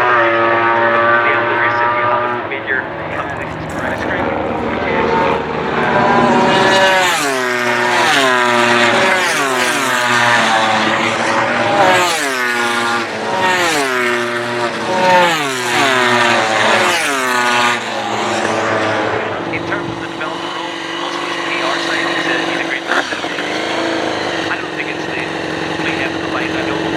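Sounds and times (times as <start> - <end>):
racing motorcycles passing: 0.0 - 26.9.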